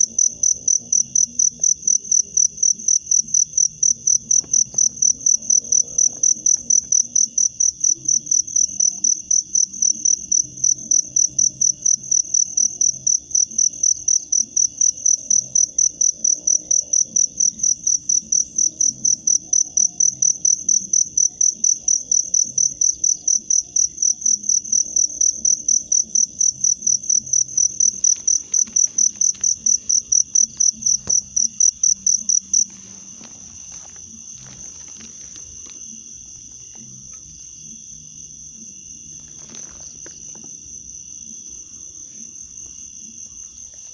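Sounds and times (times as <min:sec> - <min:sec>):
cricket chirping: 0:00.0 - 0:43.9
faint insect trill: 0:00.0 - 0:43.9.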